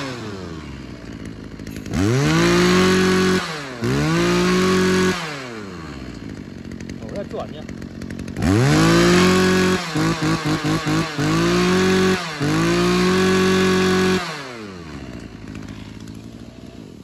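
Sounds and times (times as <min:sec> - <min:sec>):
brush cutter engine revving: 0:00.0 - 0:17.0.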